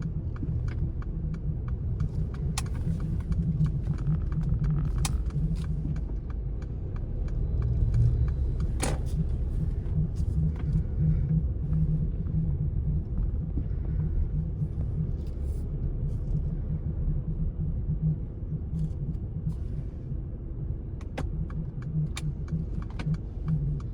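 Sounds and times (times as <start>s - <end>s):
car road and engine rumble: 0.0s - 23.9s.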